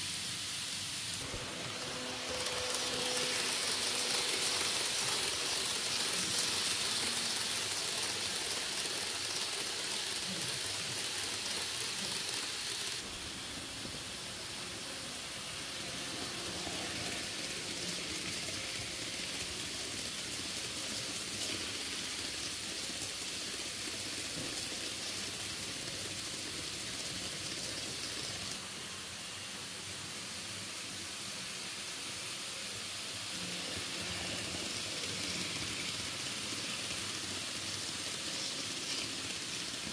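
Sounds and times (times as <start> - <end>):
model train wheels rolling on rails: 0.0 - 39.9.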